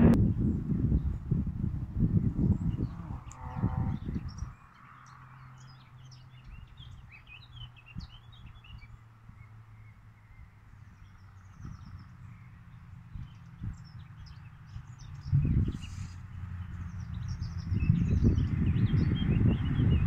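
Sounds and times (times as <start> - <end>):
small birds chirping: 2.0 - 20.0.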